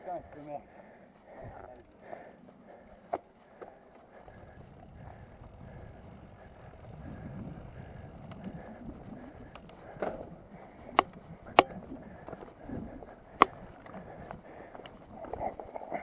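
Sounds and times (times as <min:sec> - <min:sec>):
bike rattling over bumps: 0:00.8 - 0:16.0
bike tyres rumbling on dirt: 0:01.3 - 0:16.0.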